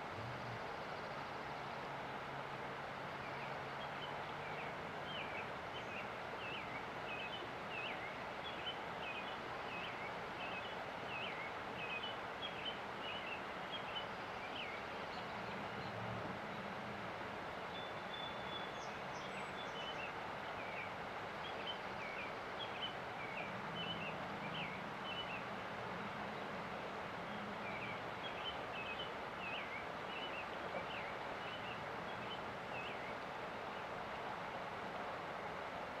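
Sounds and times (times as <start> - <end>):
river water rushing: 1.5 - 36.0
songbirds chirping: 3.0 - 35.6.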